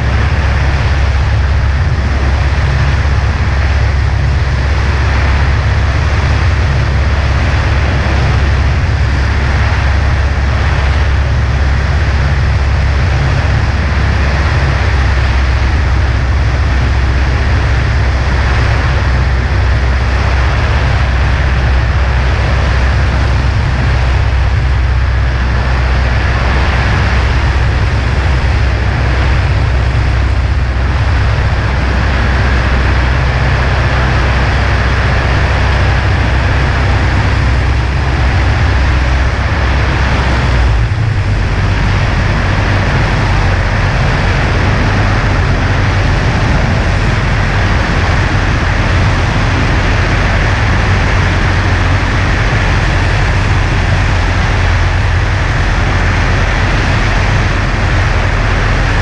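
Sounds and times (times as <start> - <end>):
airplane engine droning: 0.0 - 59.0
wind rushing: 0.0 - 59.0.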